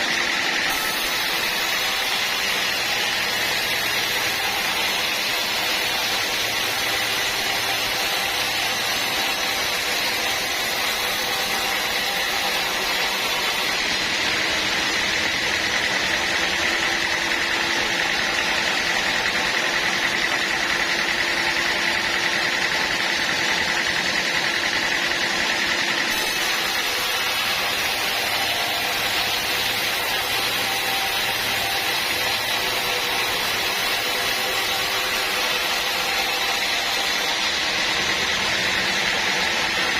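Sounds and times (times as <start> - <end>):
high mechanical whine: 0.0 - 39.9
sawmill machinery sawing logs: 0.0 - 39.9.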